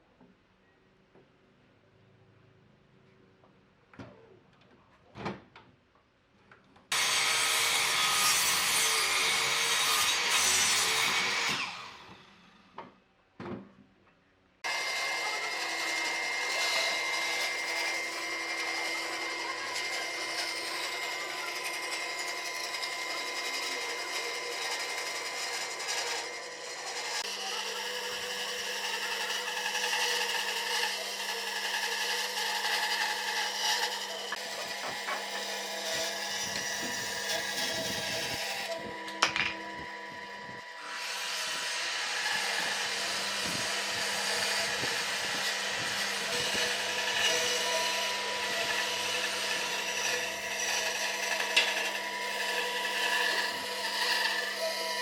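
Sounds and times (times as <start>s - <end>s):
power tool motor whine: 6.9s - 12.6s, 14.6s - 55.0s.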